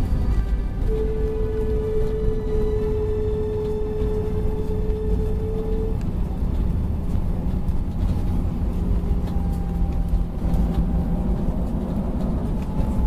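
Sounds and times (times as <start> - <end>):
airliner cabin rumble on landing: 0.0 - 13.0.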